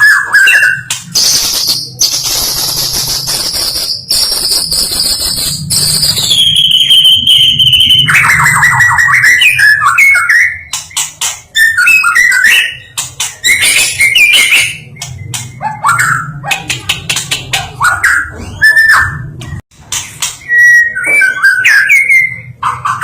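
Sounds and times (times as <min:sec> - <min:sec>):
bird singing whistles and trills: 0:00.0 - 0:16.4, 0:17.8 - 0:19.3, 0:20.3 - 0:23.0.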